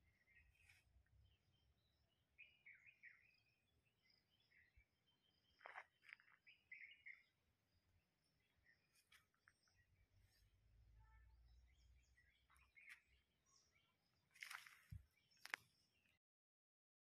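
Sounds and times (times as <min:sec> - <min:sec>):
bird chirps: 0:00.0 - 0:16.2.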